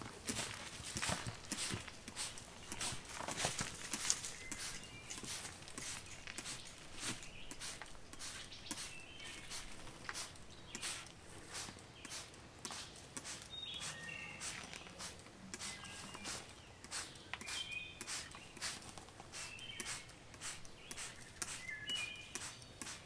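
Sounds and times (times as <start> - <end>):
spray bottle hissing sprays: 0.3 - 23.0.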